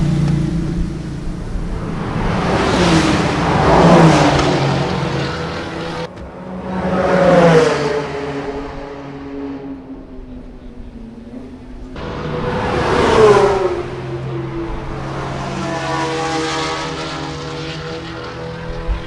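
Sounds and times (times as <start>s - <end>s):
sports cars passing at speed: 0.0s - 19.0s.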